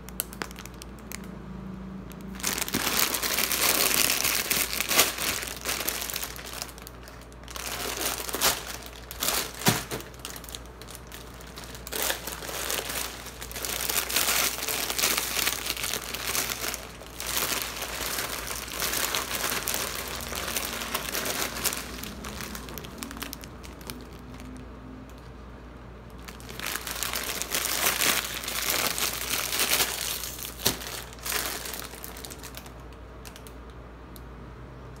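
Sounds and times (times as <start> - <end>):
plastic wrappers crackling: 0.0 - 1.4, 2.1 - 25.3, 26.1 - 33.7.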